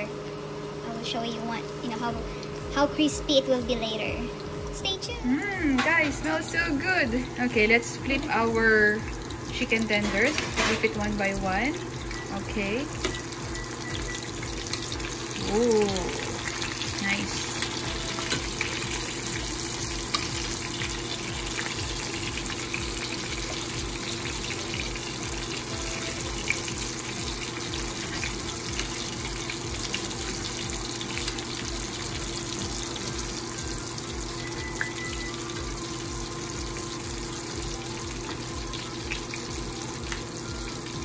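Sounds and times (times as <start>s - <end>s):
chicken sizzling in hot oil: 0.0s - 41.0s.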